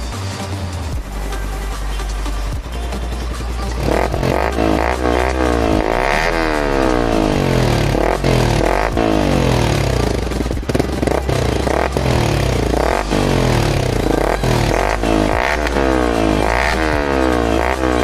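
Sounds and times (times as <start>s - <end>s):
motorcycle engine revving: 0.9s - 18.0s.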